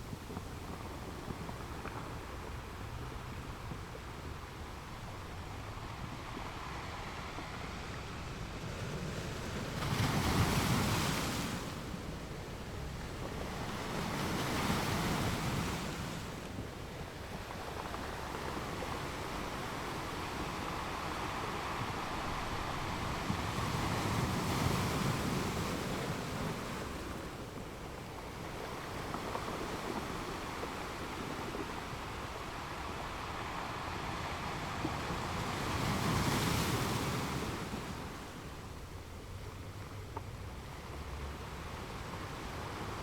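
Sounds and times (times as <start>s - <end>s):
ocean waves breaking on beach: 0.0s - 43.0s.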